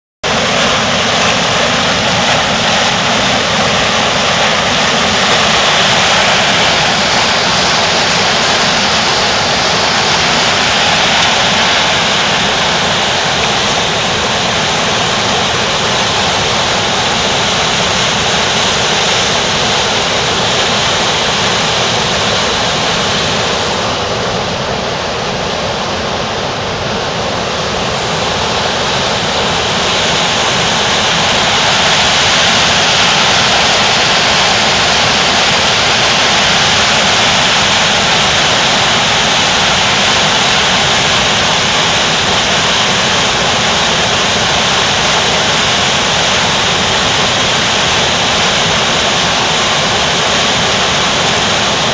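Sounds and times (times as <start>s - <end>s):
whitewater rushing over rocks: 0.2s - 51.9s.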